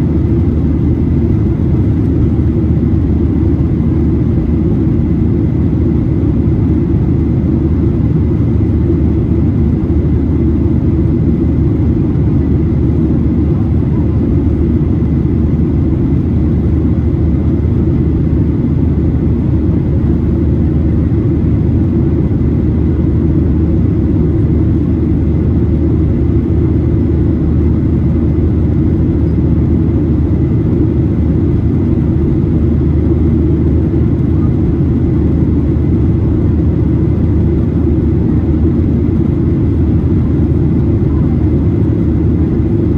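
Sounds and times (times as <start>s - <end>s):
airplane cabin roar: 0.0s - 42.9s
faint high engine whine: 0.0s - 42.9s.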